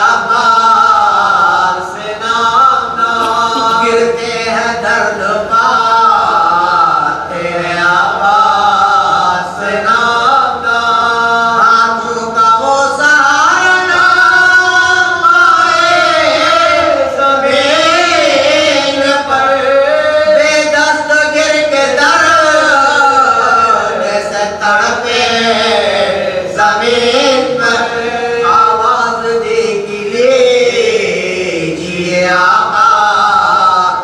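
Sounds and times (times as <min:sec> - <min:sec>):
man chanting a lament: 0:00.0 - 0:34.0.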